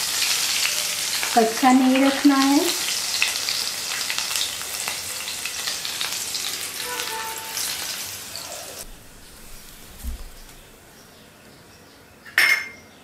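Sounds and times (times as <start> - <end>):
chillies sizzling in hot oil: 0.0 - 10.8.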